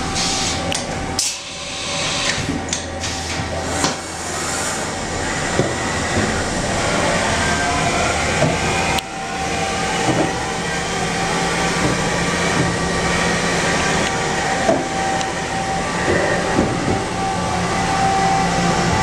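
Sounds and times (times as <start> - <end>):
machinery humming: 0.0 - 19.0.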